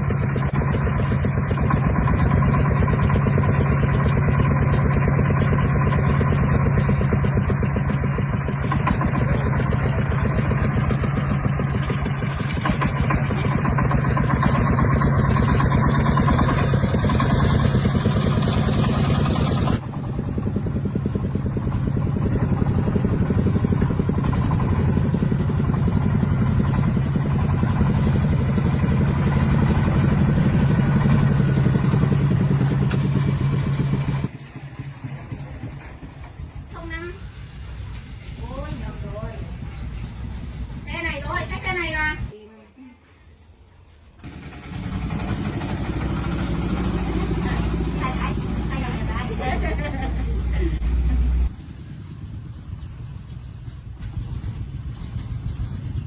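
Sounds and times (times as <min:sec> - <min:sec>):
tractor engine running: 0:00.0 - 0:42.3, 0:44.0 - 0:56.0.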